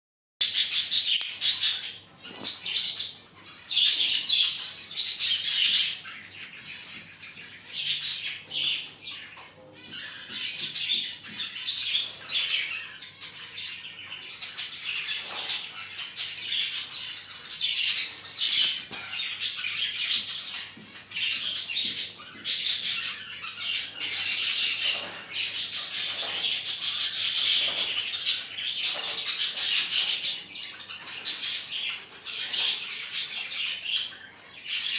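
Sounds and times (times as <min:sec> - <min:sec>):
cockatiels chirping: 0:00.4 - 0:34.9.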